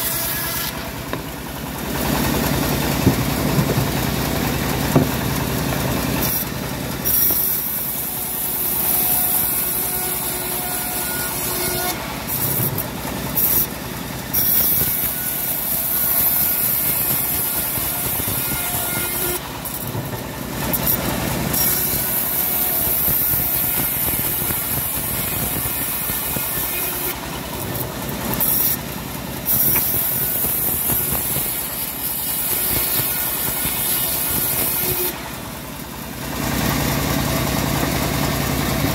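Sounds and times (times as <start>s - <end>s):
saw blade cutting wood: 0.0s - 38.0s
bandsaw mill drone: 0.0s - 38.9s.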